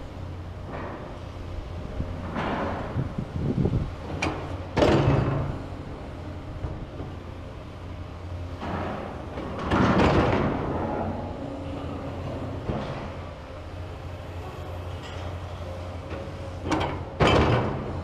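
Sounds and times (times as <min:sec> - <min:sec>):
excavator engines running: 0:00.0 - 0:18.0.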